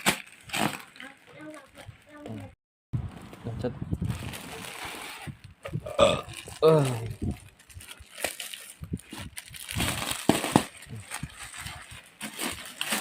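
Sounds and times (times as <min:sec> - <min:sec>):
plastic packaging crinkling: 0:00.0 - 0:02.2, 0:04.0 - 0:05.5, 0:06.2 - 0:13.0.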